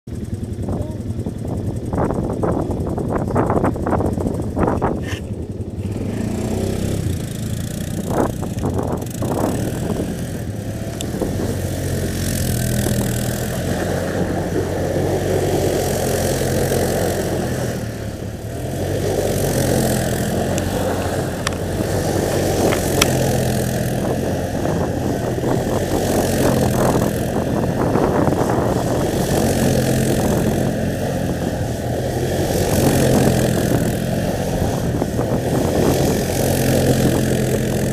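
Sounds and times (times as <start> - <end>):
atv engine idling: 0.1 - 37.9
atv engine revving in circles: 0.1 - 37.9.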